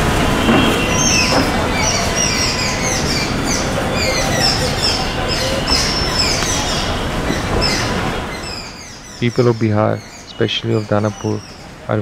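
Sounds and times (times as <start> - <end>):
loud steady background noise: 0.0 - 12.0
small birds chirping: 0.4 - 12.0.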